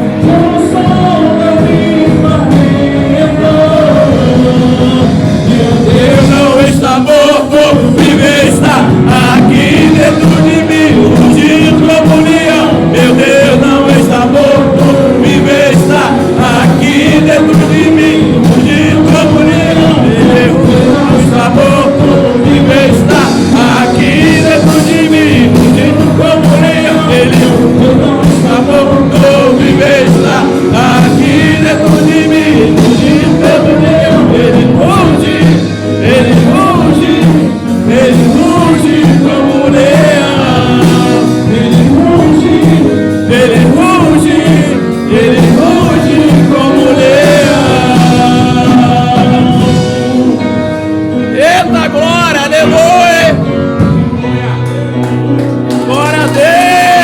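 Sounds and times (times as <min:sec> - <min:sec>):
people singing: 0:00.0 - 0:57.0
praise band playing worship song: 0:00.0 - 0:57.0.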